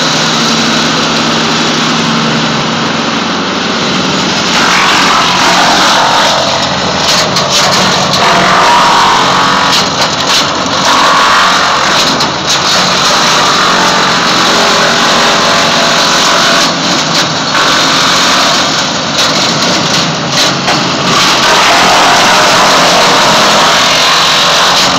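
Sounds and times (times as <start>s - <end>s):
wood chipper running: 0.0s - 24.9s.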